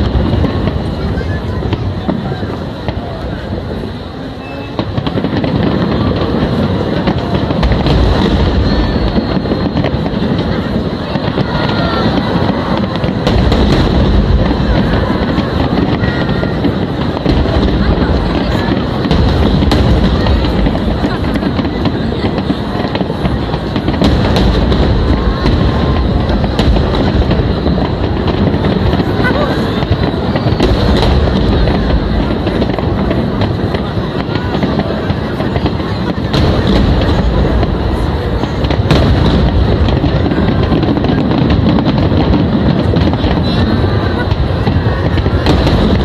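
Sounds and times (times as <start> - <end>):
firework booms and cracks: 0.0 - 46.0.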